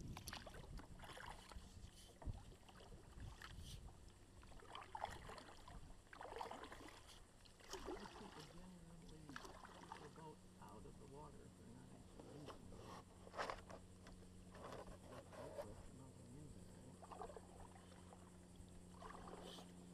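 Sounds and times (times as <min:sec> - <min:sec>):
kayak paddles splashing water: 0:00.0 - 0:15.7, 0:16.5 - 0:19.9.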